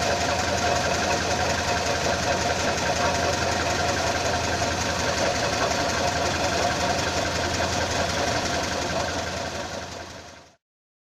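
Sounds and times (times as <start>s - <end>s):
water pump whine: 0.0s - 10.2s
car engine idling: 0.0s - 10.6s.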